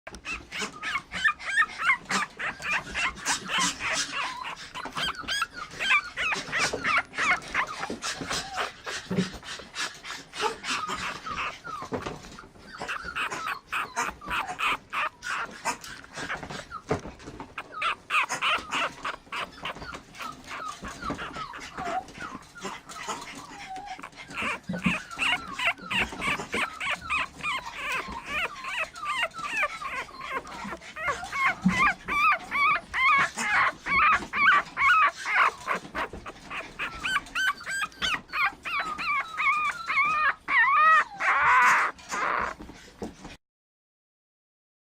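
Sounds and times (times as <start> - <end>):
puppy whimpering and yipping: 0.1 - 43.0.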